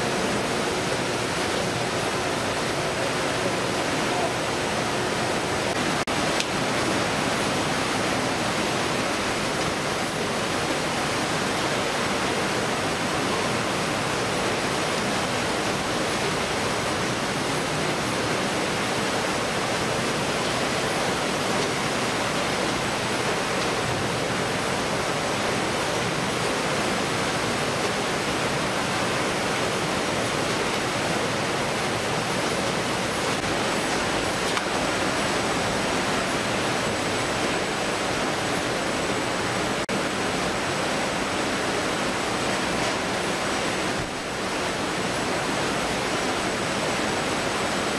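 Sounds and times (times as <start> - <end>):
running water: 0.0 - 47.9.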